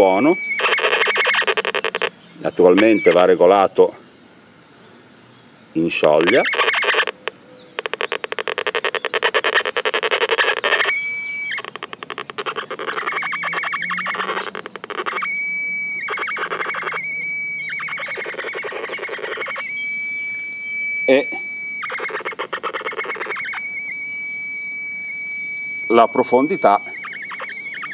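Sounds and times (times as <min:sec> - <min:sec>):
metal detector high-pitched tone: 0:00.0 - 0:03.6, 0:06.1 - 0:07.2, 0:07.8 - 0:27.9
metal detector crackling clicks: 0:00.1 - 0:03.2, 0:06.2 - 0:27.9.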